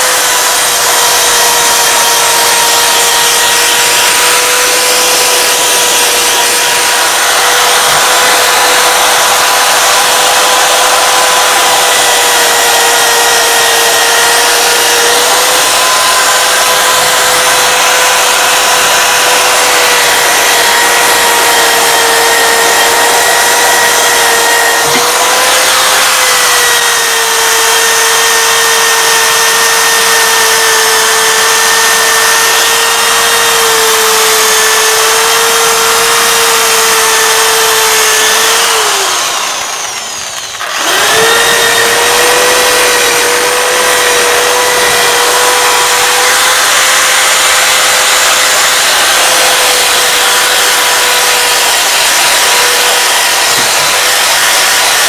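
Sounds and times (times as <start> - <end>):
electric drill motor whine: 0.0 - 55.0.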